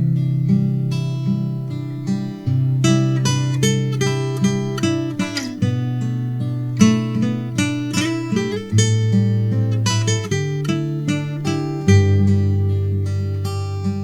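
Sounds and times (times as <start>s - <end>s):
acoustic guitar fingerstyle: 0.0s - 14.0s.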